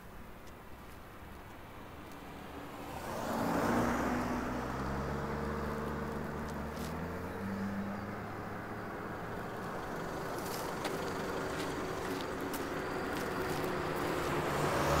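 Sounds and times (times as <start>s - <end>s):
car driving past: 2.7s - 15.0s.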